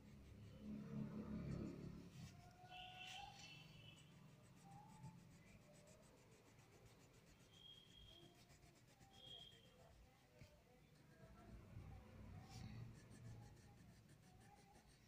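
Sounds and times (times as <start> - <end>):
oil pastel scratching on paper: 0.0 - 15.0.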